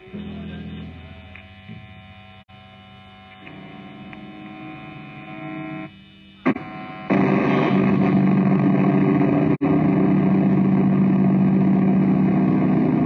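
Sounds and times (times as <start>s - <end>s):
electrical mains hum and buzz: 0.0s - 13.0s
loud rough buzz: 0.0s - 13.0s.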